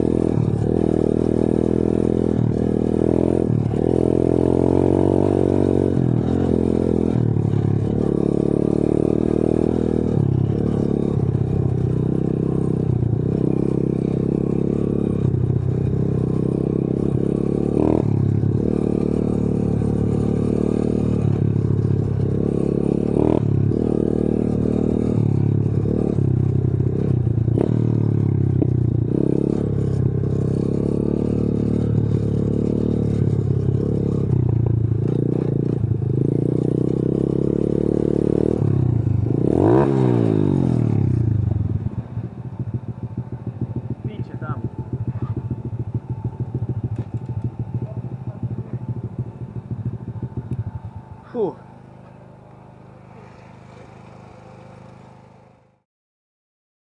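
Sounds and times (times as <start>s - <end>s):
motorbike engine revving: 0.0s - 55.8s.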